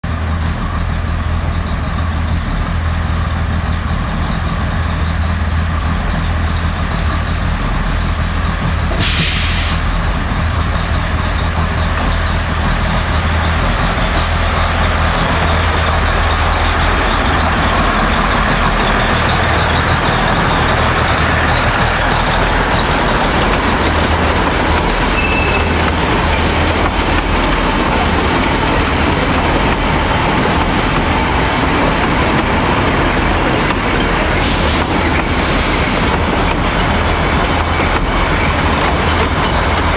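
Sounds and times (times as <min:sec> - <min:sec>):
diesel locomotive engine hum: 0:00.0 - 0:39.9.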